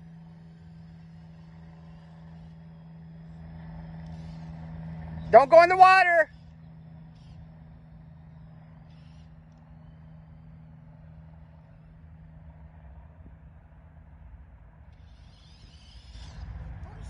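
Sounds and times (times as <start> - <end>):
electric motor hum of toy car: 0.0 - 13.4, 14.8 - 17.0.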